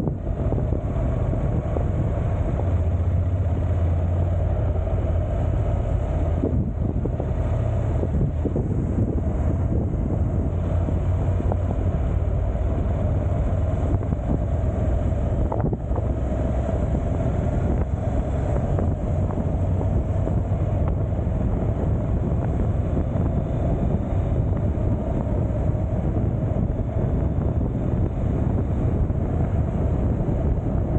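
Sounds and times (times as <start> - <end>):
motorcycle engine and road rumble: 0.0 - 30.9
wind on microphone: 0.0 - 30.9.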